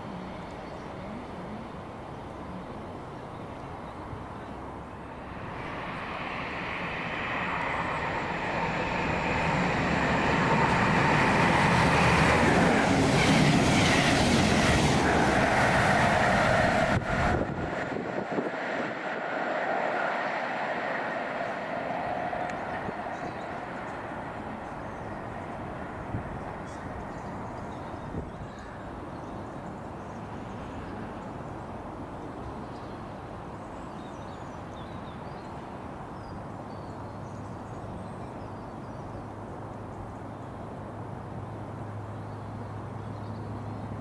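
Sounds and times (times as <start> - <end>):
train passing: 0.0 - 36.7.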